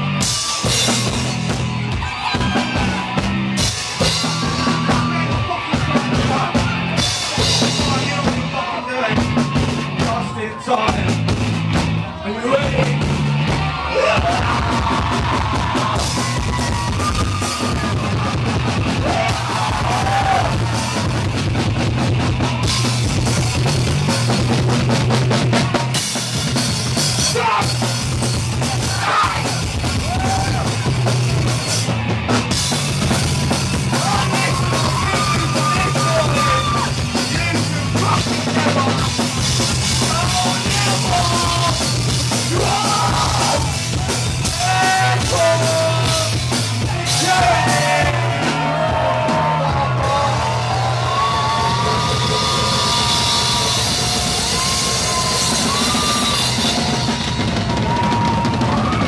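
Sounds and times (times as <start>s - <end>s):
drum kit: 0.0s - 59.0s.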